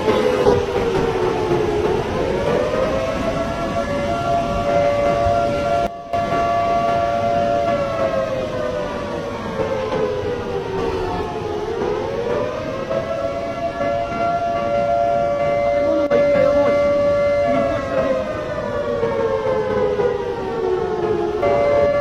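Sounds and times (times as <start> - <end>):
two-tone warning siren: 0.0 - 22.0.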